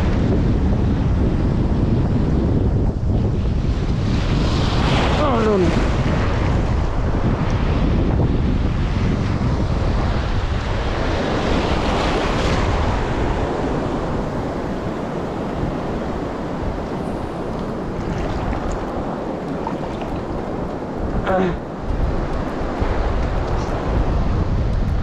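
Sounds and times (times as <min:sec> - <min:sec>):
waves washing on shore: 0:00.0 - 0:25.0
wind buffeting microphone: 0:00.0 - 0:25.0.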